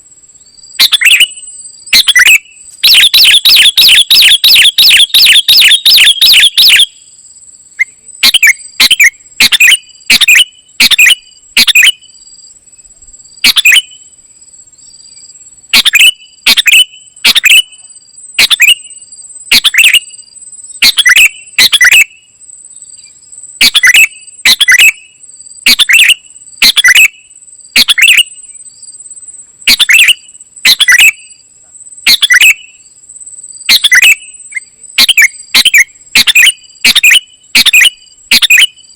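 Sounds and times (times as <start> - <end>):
bird chirping: 0.3 - 7.2, 7.8 - 38.9.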